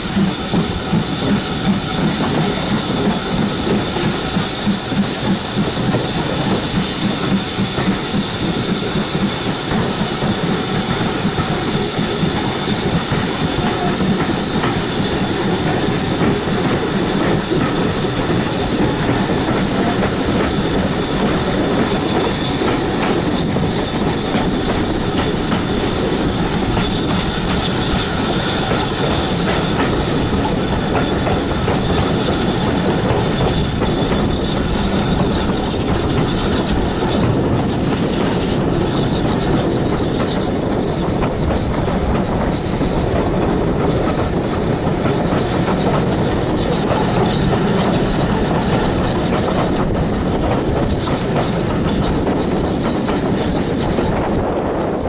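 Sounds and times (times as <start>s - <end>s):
train wheels clacking on rails: 0.0s - 55.0s.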